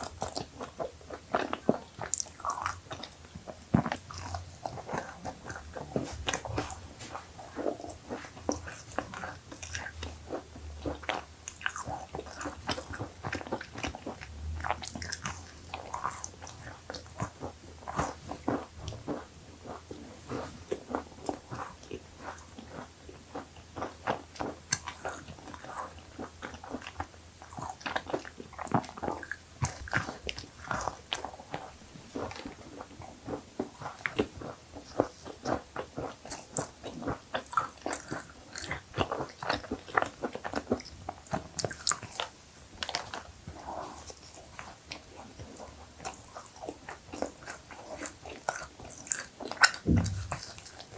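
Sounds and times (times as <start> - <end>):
chewing crunchy cookies: 0.0 - 50.9.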